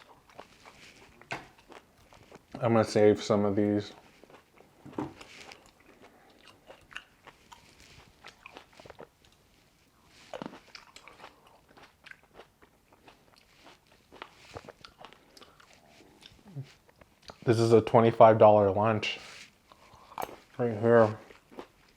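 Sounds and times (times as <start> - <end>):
person chewing and biting grapes: 0.0 - 2.7, 3.9 - 17.5, 19.4 - 21.9.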